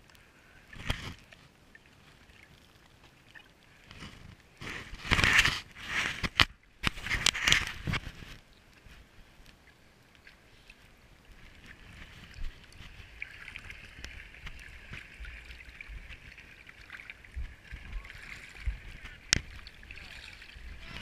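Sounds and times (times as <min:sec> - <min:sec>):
water lapping and gurgling: 0:00.0 - 0:21.0.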